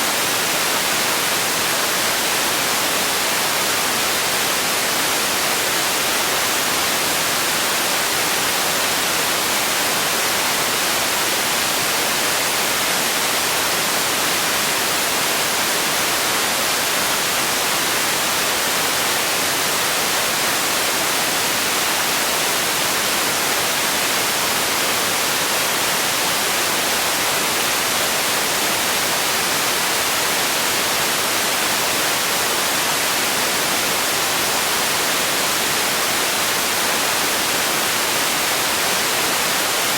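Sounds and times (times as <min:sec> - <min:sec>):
steady sleep noise hiss: 0:00.0 - 0:39.9.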